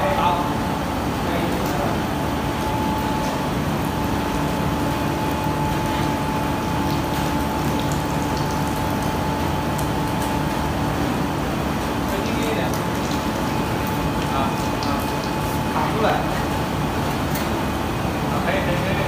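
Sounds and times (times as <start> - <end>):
machine hum with whine: 0.0 - 19.0.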